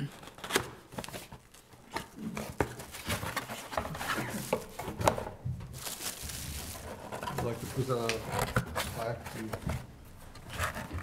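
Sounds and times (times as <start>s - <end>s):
paper rustling: 0.2s - 9.8s.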